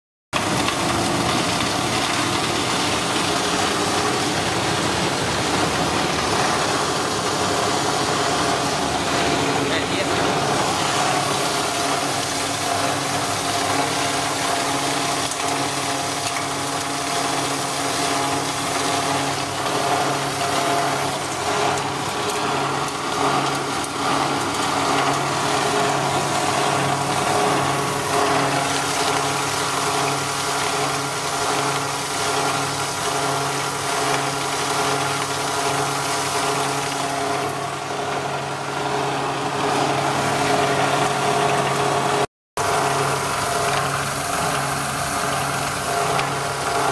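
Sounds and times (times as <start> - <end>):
motor hum: 0.4 - 46.9.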